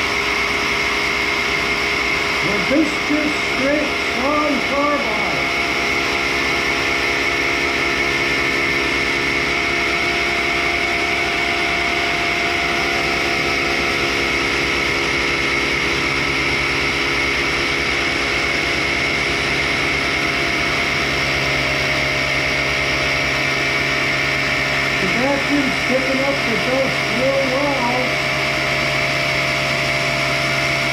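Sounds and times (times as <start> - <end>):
grinder whining: 0.0 - 30.9.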